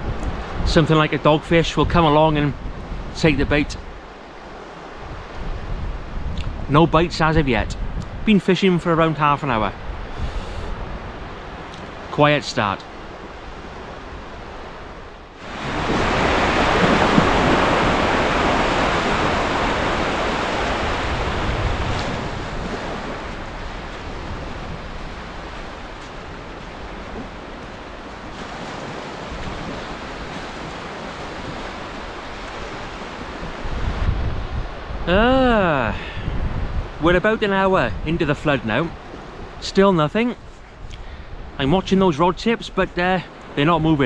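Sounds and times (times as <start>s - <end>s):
wind rumbling on microphone: 0.0s - 12.2s, 12.8s - 44.0s
surf washing on beach: 0.0s - 44.0s.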